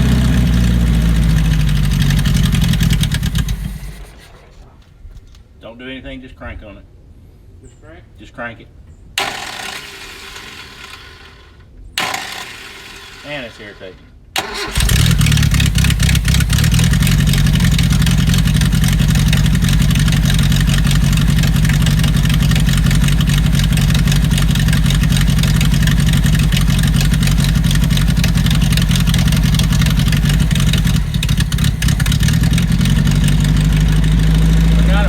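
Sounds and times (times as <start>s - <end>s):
car engine running and stumbling: 0.0s - 5.0s, 9.2s - 35.0s.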